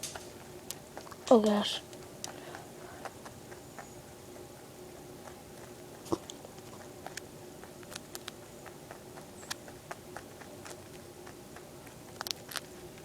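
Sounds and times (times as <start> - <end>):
rabbit crunching dry cereal: 0.0 - 13.0.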